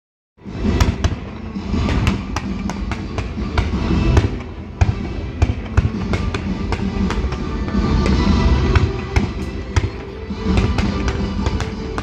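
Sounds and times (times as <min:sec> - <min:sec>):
low rumble of fireworks: 0:00.4 - 0:12.0
music playing: 0:00.4 - 0:12.0
fireworks bangs and cracks: 0:00.7 - 0:12.0.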